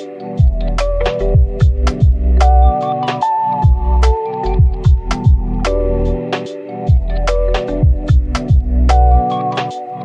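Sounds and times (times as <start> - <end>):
electronic music with a beat: 0.0 - 10.0.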